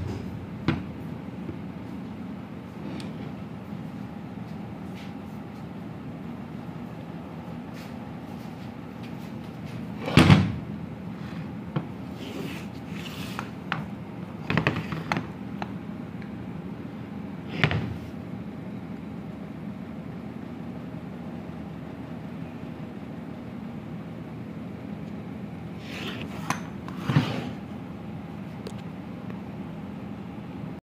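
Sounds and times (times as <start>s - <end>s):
steady low hum: 0.0s - 30.8s.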